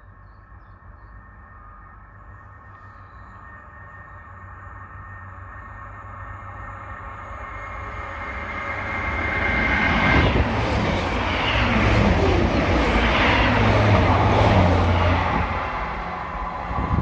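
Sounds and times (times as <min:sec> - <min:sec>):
fast train passing: 0:01.1 - 0:17.0.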